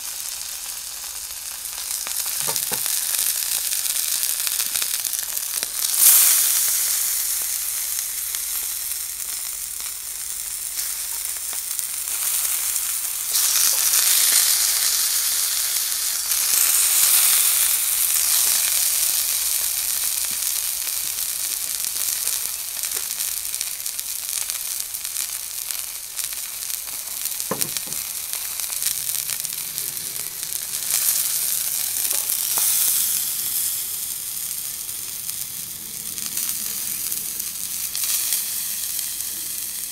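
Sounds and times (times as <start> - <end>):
steak sizzling in frying pan: 0.0 - 39.9.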